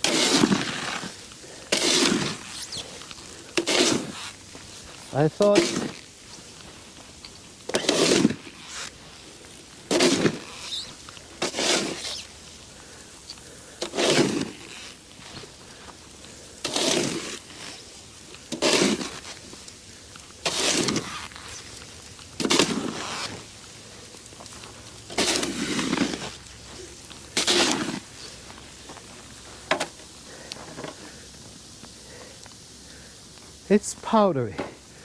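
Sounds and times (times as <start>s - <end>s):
snow shovel scraping snow: 0.0s - 31.2s.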